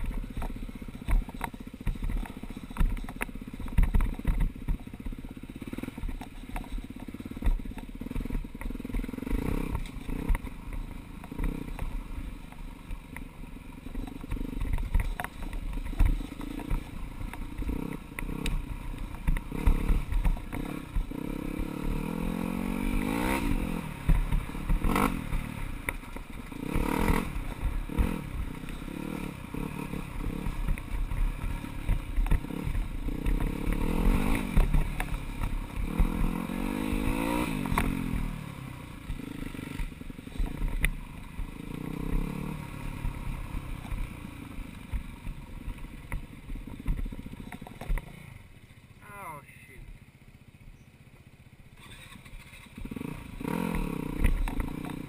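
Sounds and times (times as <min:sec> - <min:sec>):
clatters and knocks over bumps: 0:00.0 - 0:22.4, 0:23.0 - 0:38.4, 0:39.0 - 0:48.5, 0:52.3 - 0:55.0
dirt bike engine revving: 0:00.0 - 0:50.0, 0:51.6 - 0:55.0.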